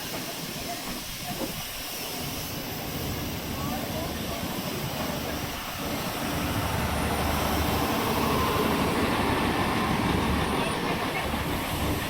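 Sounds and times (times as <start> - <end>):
diesel train engine droning: 2.1 - 12.0.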